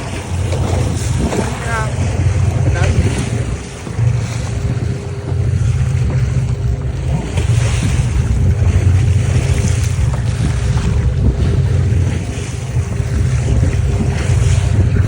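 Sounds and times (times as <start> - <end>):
waves washing around boat: 0.0 - 15.0
wind buffeting microphone: 0.0 - 15.0.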